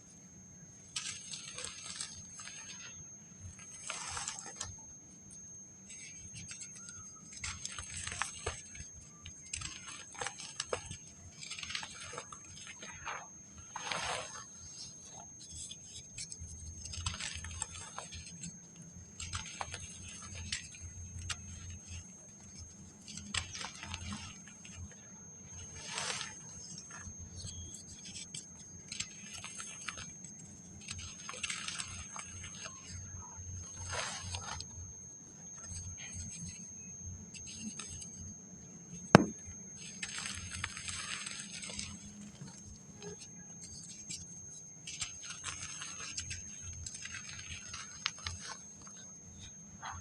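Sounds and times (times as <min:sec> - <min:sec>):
dry sand crumbling: 0:00.1 - 0:34.9, 0:39.0 - 0:50.0.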